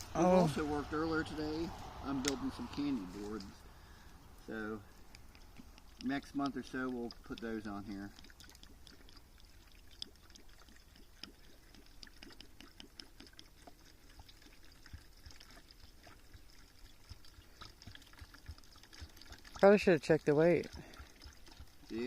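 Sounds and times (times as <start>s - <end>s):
liquid pouring and trickling: 0.0s - 22.0s.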